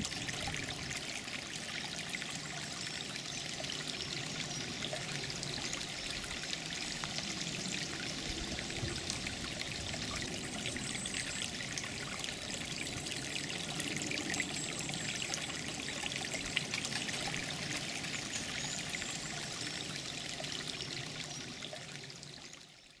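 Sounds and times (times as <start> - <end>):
stream water trickling: 0.0 - 23.0.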